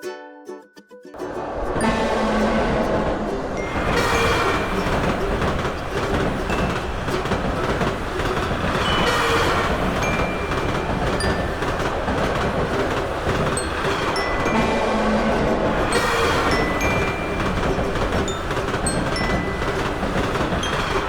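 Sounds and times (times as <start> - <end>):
train rumbling past: 1.2 - 21.0.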